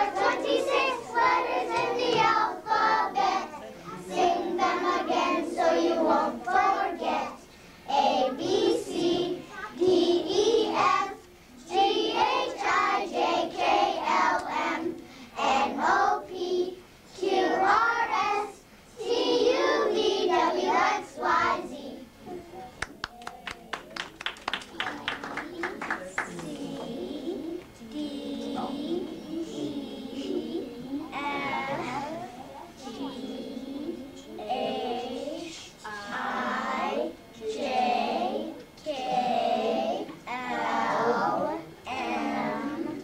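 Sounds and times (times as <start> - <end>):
young children singing: 0.0 - 23.6, 24.7 - 43.0.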